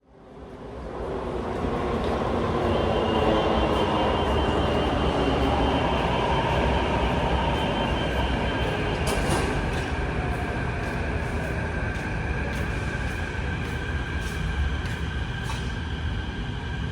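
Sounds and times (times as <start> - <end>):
metro train rumble: 0.0 - 16.9.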